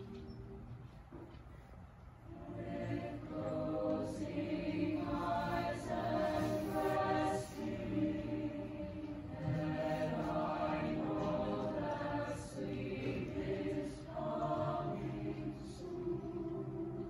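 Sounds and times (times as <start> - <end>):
mixed choir singing: 2.3 - 17.0.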